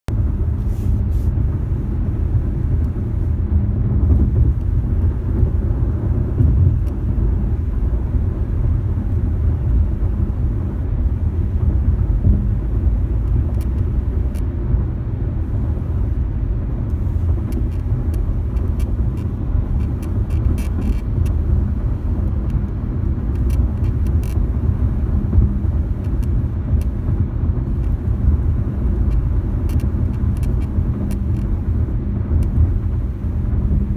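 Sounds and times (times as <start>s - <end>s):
road rumble inside car cabin: 0.1s - 33.9s.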